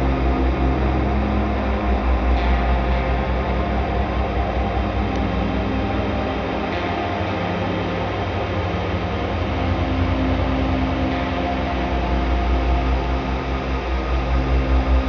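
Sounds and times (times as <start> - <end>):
ambient droning pad music: 0.0 - 15.0.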